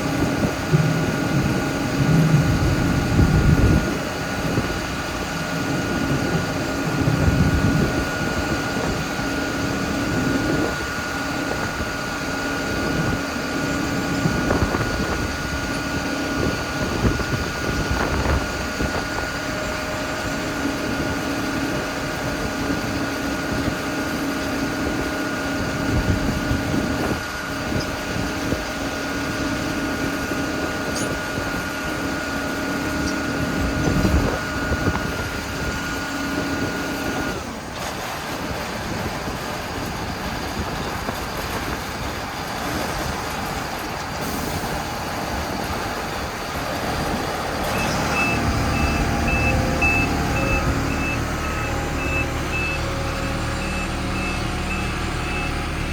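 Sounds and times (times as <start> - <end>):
constant machine whine: 0.0 - 55.9
low rumbling: 0.0 - 55.9
potato harvester running: 0.0 - 55.9.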